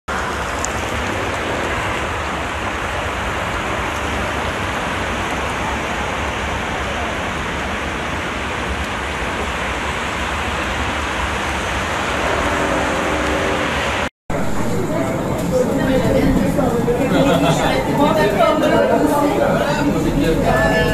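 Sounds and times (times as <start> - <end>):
heavy rain on standing water: 0.1 - 20.9.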